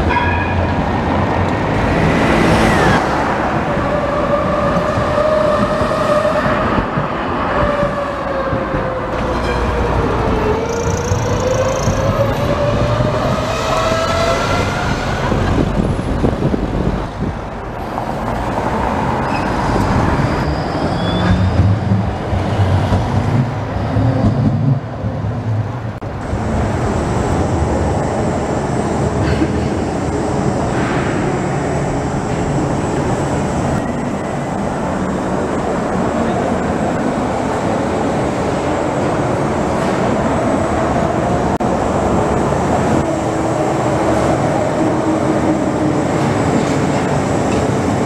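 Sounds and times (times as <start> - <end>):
city street traffic: 0.0 - 48.0
tram rolling past: 0.0 - 48.0
tram station hum: 0.0 - 48.0.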